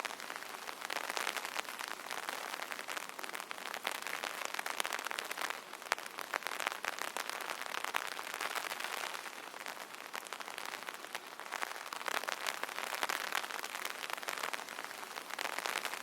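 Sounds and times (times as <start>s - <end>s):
rain on an umbrella: 0.0s - 16.0s.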